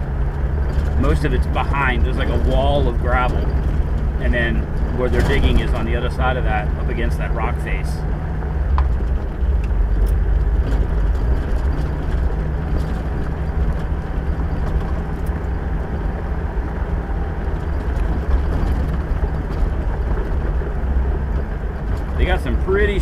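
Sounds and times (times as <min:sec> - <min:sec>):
engine and tyre rumble: 0:00.0 - 0:23.0
small rattles and knocks: 0:00.1 - 0:07.5, 0:08.4 - 0:22.9.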